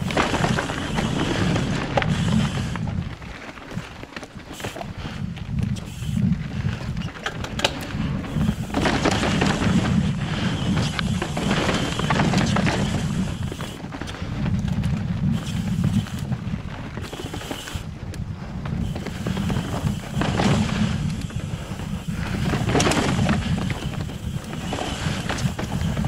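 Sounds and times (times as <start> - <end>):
bike rattles and clicks: 0.0 - 26.0
bike rolling over rough rock: 0.0 - 26.0
wind rumbling on microphone: 0.0 - 26.0.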